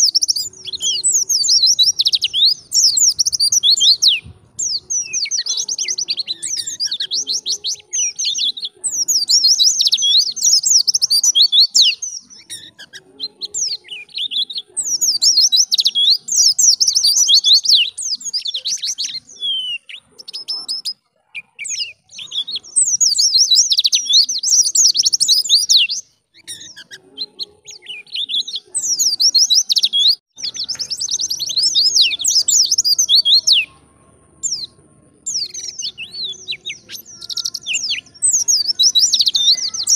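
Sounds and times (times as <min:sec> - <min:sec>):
bird twittering: 0:00.0 - 0:33.8, 0:34.4 - 0:39.9.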